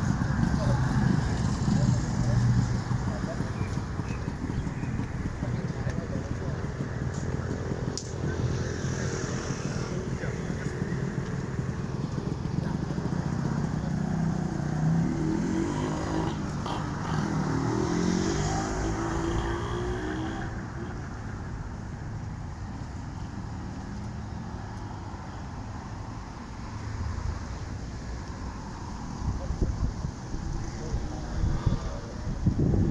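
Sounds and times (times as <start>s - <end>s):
motorcycle engine revving and idling: 0.0s - 32.9s.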